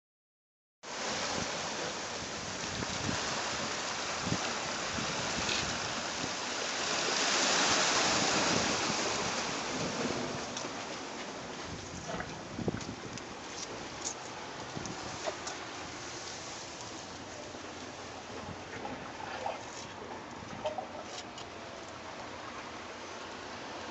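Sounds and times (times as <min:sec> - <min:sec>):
waves breaking on rocks: 0:00.9 - 0:23.9.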